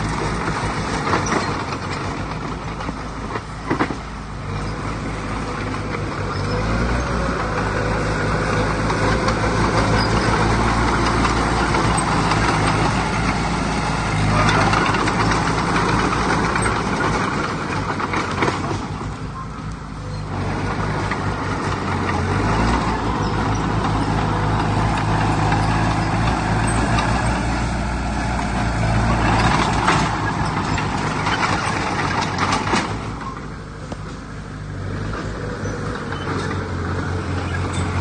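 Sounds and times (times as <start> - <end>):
heavy machinery diesel engine: 0.0 - 38.0.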